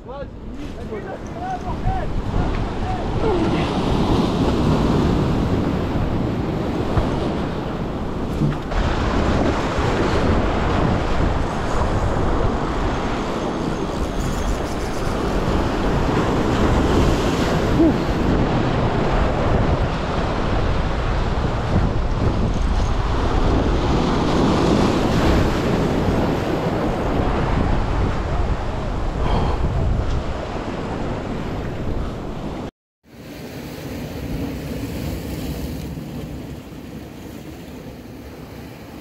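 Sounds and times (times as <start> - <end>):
wind buffeting microphone: 0.0 - 32.7
sea surf breaking: 0.0 - 39.0.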